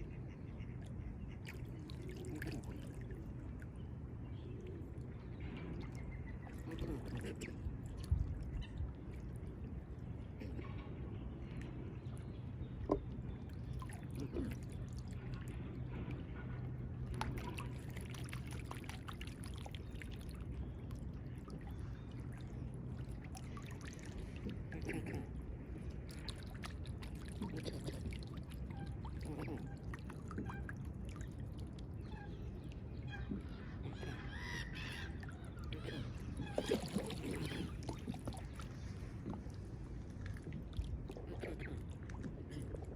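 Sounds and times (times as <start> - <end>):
low steady rumble: 0.0 - 42.9
water lapping at riverbank: 0.0 - 42.9.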